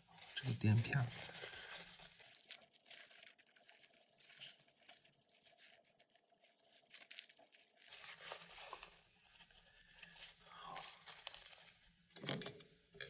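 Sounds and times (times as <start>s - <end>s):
paper tissue rustling: 0.0s - 12.0s.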